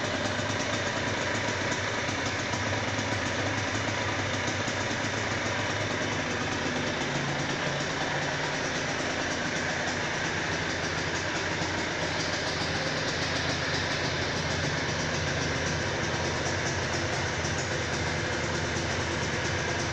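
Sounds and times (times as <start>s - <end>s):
two-stroke engine idling: 0.0s - 19.9s.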